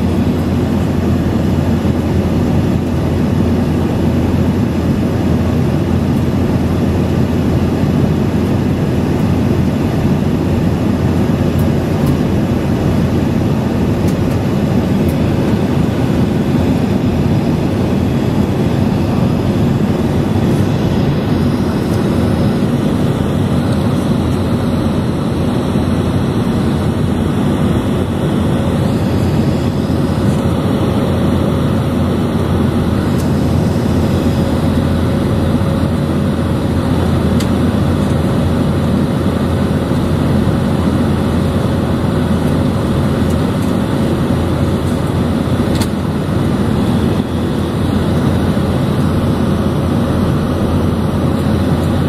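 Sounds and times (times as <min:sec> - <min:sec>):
airliner cabin noise: 0:00.0 - 0:52.0.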